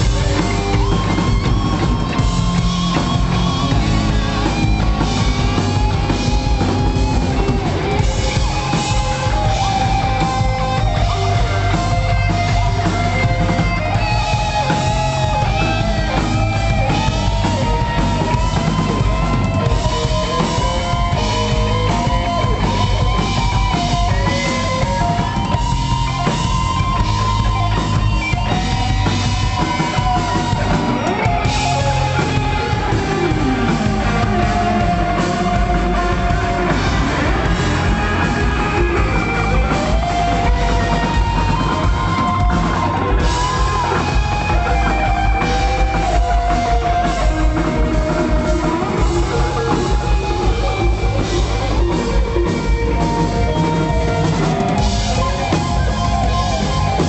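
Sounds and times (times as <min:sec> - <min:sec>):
live rock band playing: 0:00.0 - 0:57.0
wavering lead melody: 0:00.0 - 0:57.0.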